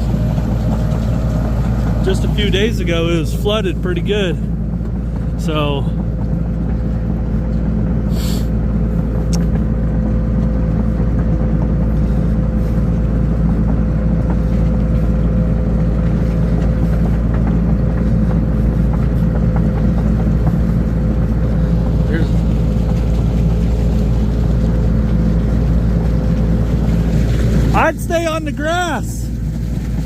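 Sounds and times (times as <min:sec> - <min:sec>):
loader engine rumbling: 0:00.0 - 0:30.0
steady engine whine: 0:00.0 - 0:30.0.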